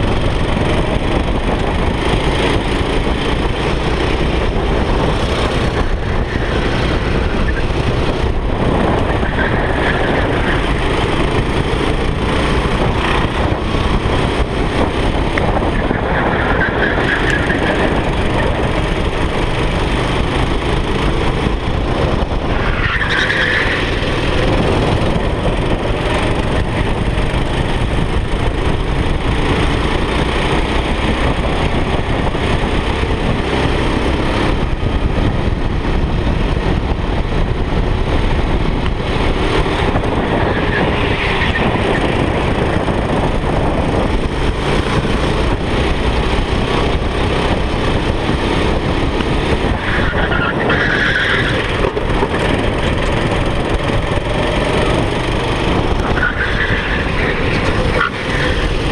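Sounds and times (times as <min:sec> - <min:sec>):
go-kart engine running hard: 0:00.0 - 0:58.9
wind noise on microphone: 0:00.0 - 0:58.9.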